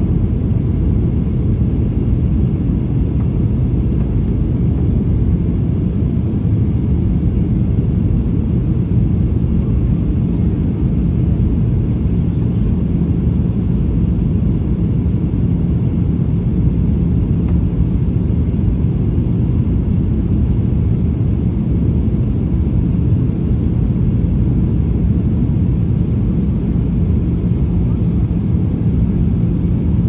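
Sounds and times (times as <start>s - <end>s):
airliner engine drone: 0.0s - 30.0s.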